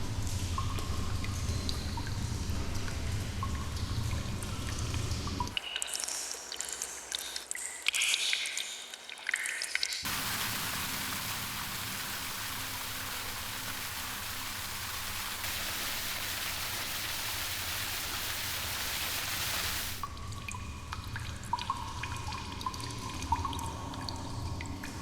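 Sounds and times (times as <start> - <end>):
falling water rushing in a cave: 0.1 - 25.0.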